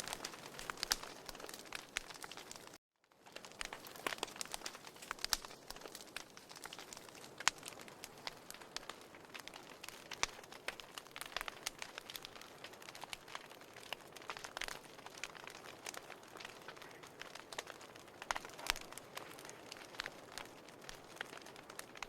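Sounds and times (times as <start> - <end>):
firewood crackling and popping: 0.0 - 22.0.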